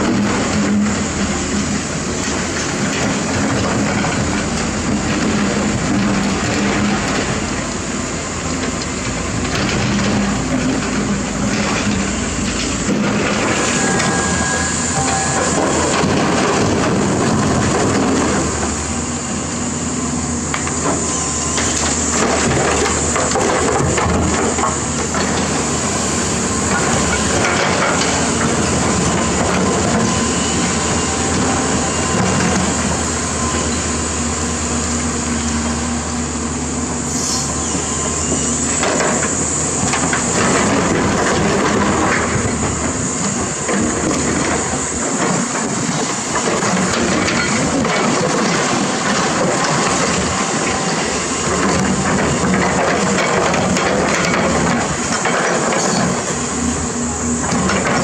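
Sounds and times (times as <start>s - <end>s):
tyres rolling over gravel: 0.0s - 36.9s, 37.9s - 58.0s
truck diesel engine running: 0.0s - 47.0s
excavator engine: 0.0s - 58.0s.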